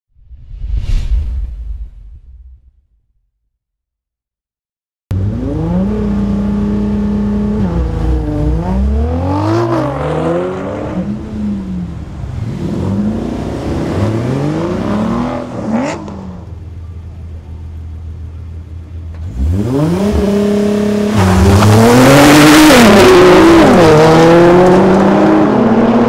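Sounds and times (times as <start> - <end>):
car engine revving: 5.1 - 26.0.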